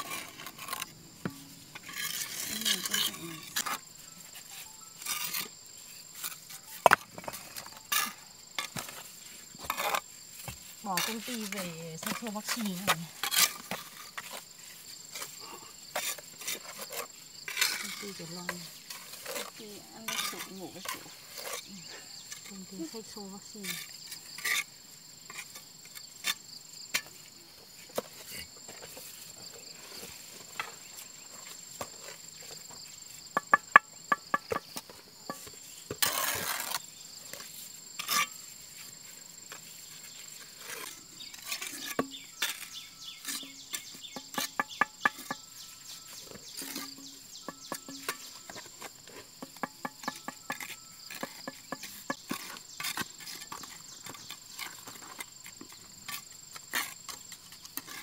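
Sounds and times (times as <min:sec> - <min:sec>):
insects chirring: 0:00.0 - 0:58.0.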